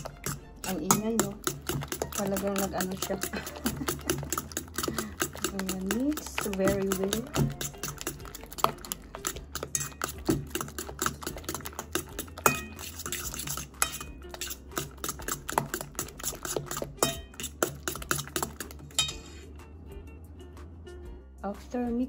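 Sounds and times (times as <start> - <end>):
fork clinking in metal bowl: 0.0 - 19.4.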